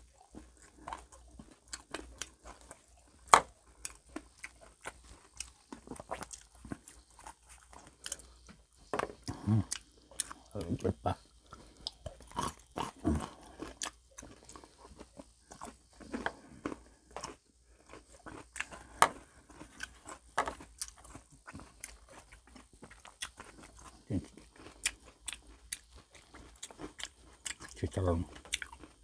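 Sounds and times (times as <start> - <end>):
crunching fried food: 0.0 - 29.0
wet chewing: 0.0 - 29.0.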